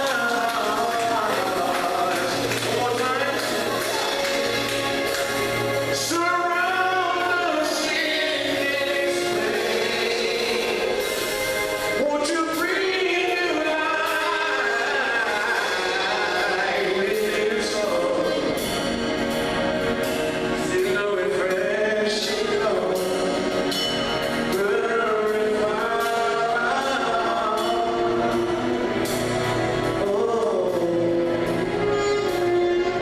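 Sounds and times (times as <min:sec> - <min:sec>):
gospel choir singing: 0:00.0 - 0:23.7, 0:24.3 - 0:31.7
instrumental accompaniment: 0:00.0 - 0:33.0.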